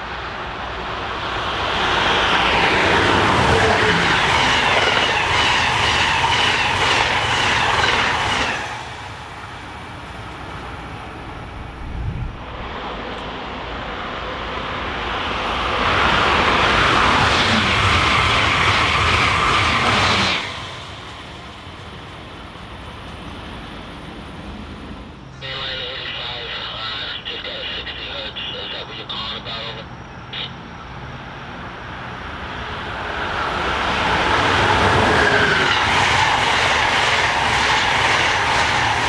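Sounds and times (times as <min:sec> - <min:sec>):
train wheels on rails: 0:00.0 - 0:25.2, 0:30.9 - 0:39.0
high-speed train rushing past: 0:00.0 - 0:39.0.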